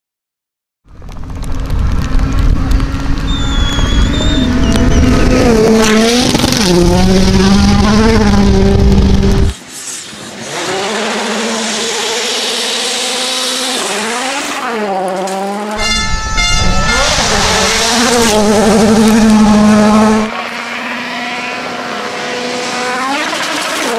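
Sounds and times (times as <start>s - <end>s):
rally car engine revving: 0.9s - 23.9s
second car engine revving: 1.2s - 9.6s, 10.4s - 23.9s.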